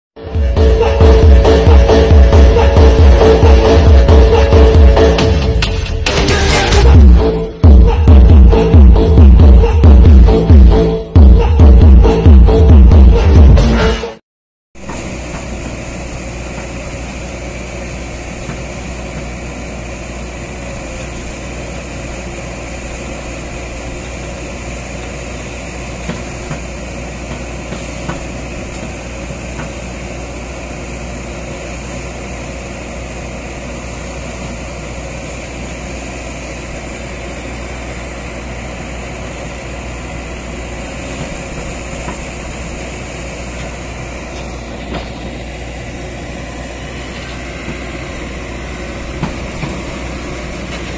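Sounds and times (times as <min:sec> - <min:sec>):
excavator diesel engine running: 0:00.2 - 0:14.1, 0:14.8 - 0:50.9.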